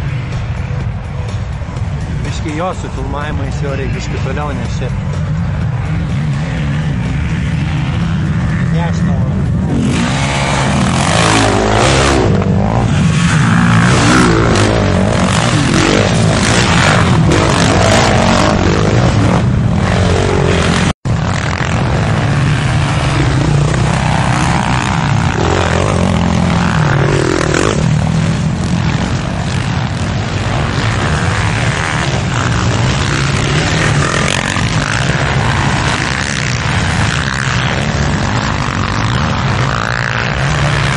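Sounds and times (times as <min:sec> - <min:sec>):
quad bike engines revving: 0:00.0 - 0:40.9.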